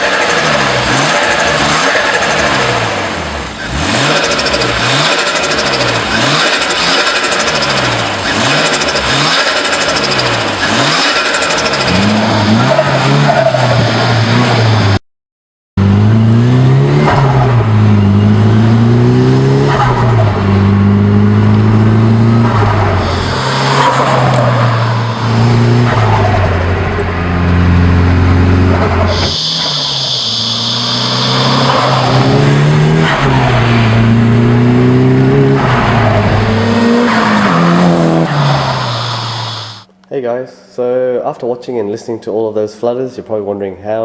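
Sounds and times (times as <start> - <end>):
car engine revving: 0.0 - 15.0, 15.8 - 39.9.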